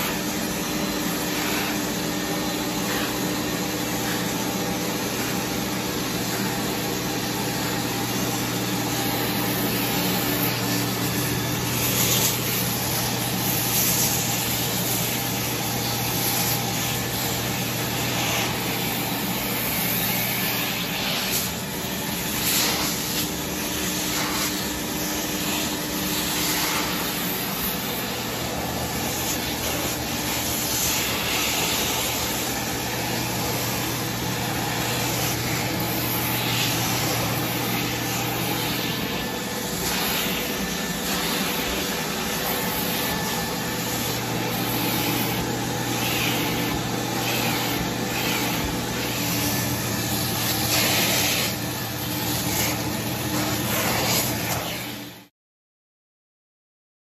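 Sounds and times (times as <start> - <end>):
suction hiss: 0.0 - 55.3
vacuum motor humming: 0.0 - 55.3.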